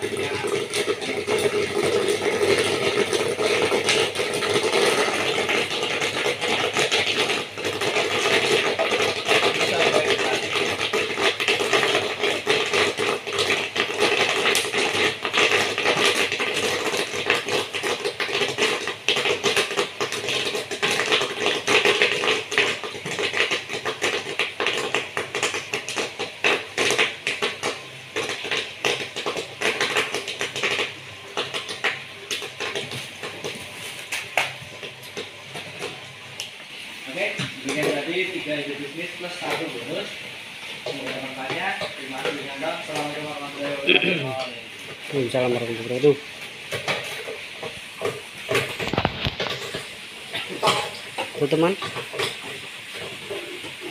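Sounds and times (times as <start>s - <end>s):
popcorn kernels popping: 0.0s - 36.6s, 37.2s - 38.6s, 40.8s - 53.9s
popcorn machine hum: 0.0s - 53.9s.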